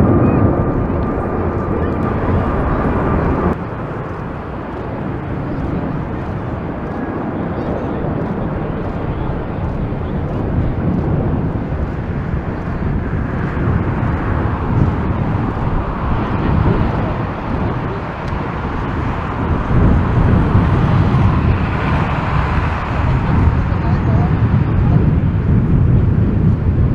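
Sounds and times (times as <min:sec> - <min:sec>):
jet engines roaring: 0:00.0 - 0:26.9
wind on microphone: 0:00.0 - 0:26.9.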